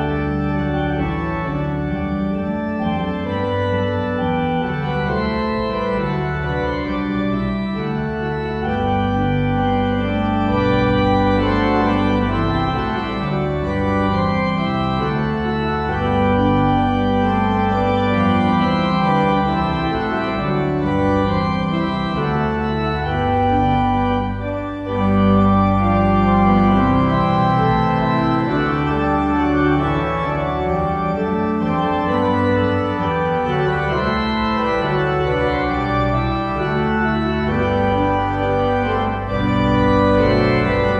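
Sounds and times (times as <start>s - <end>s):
organ playing sustained chords: 0.0s - 40.9s.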